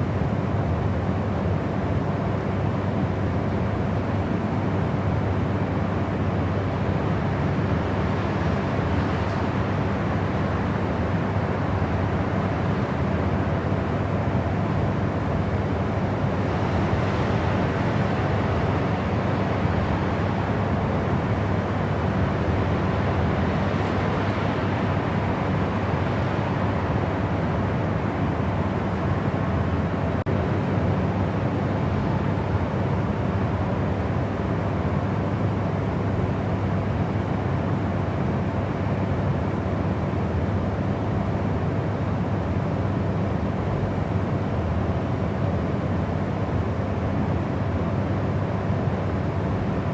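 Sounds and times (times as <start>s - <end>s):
steady white noise: 0.0s - 49.9s.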